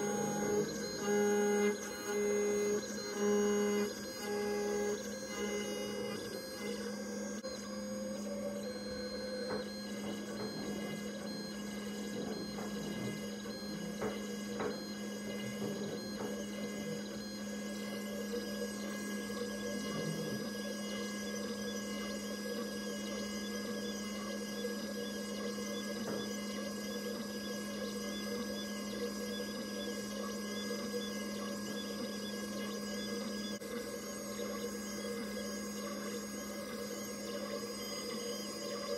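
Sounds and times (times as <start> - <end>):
cnc mill steady hum: 0.0 - 38.9
high tones from axis motors: 0.0 - 38.9.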